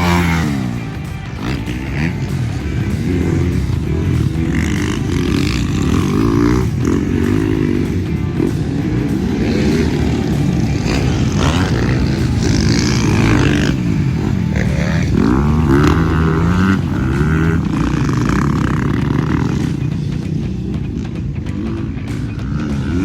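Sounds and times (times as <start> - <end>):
dirt bike engine revving: 0.0 - 23.0
wind and riding noise: 0.0 - 23.0.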